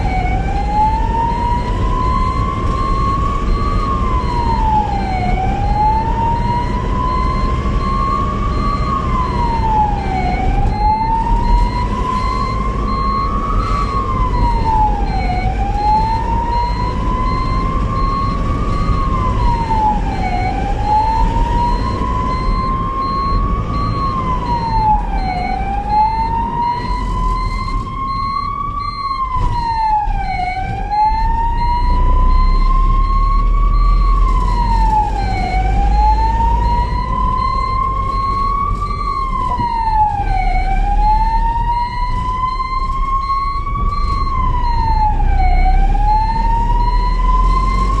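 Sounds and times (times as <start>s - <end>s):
ambulance siren wailing: 0.0s - 48.0s
low rumble of moving vehicle: 0.0s - 48.0s
high pulsing beep: 1.6s - 47.9s.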